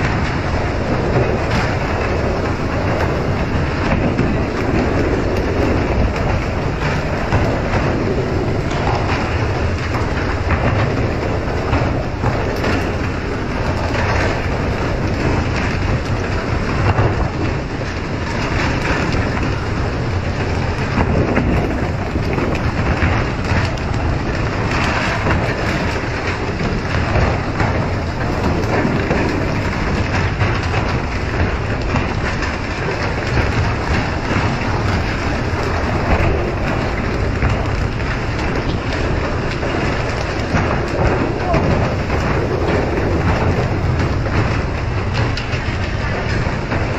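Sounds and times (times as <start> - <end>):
low rumble: 0.0 - 46.9
water rushing along boat hull: 0.0 - 46.9.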